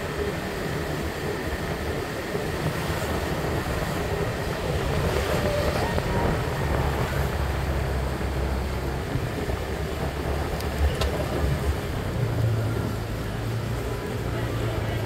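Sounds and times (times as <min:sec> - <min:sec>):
road and air noise: 0:00.0 - 0:15.0.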